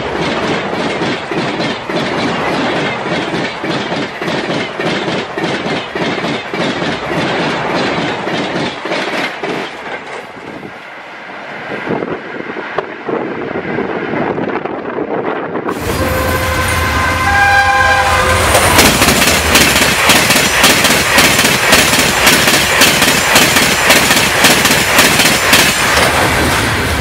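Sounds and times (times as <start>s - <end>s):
wheels clickety-clack over rail joints: 0.0s - 15.8s, 18.3s - 27.0s
train rushing past: 0.0s - 27.0s.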